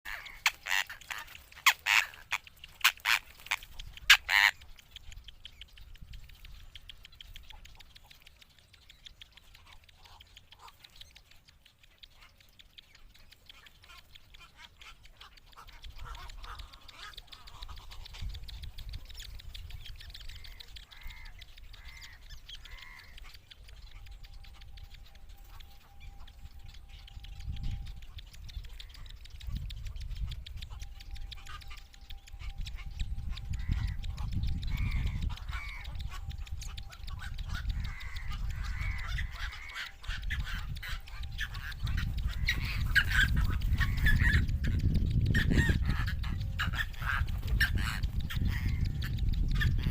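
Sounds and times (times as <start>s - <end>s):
nestlings squawking: 0.1s - 49.9s.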